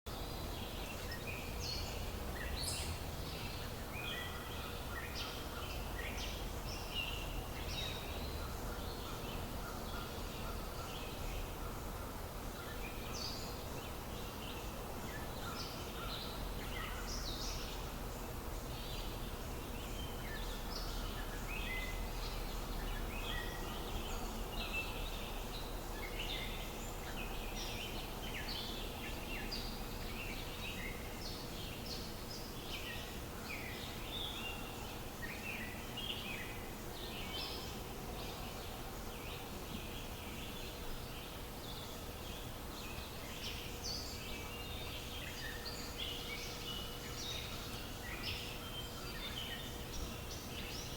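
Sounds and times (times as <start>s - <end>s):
faint hum: 0.1s - 50.9s
small birds chirping: 0.1s - 50.9s.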